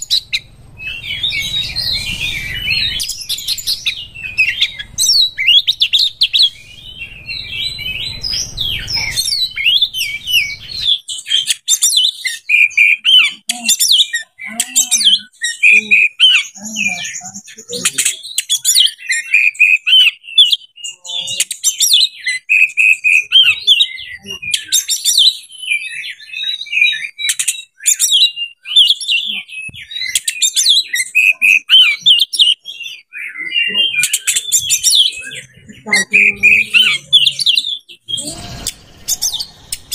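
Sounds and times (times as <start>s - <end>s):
bird singing whistled song: 0.0s - 17.0s, 17.6s - 39.9s.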